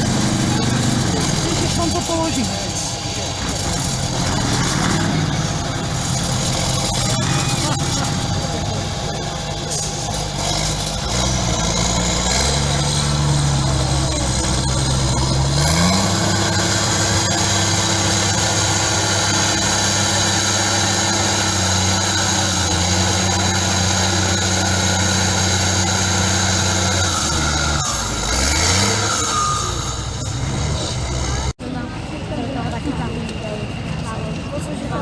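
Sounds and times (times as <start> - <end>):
high whine: 0.0 - 34.8
truck engine revving: 0.0 - 35.0.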